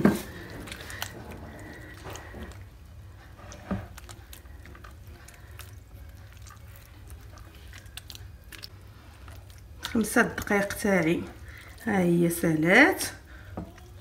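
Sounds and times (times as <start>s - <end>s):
hand squishing soft butter: 0.0s - 14.0s.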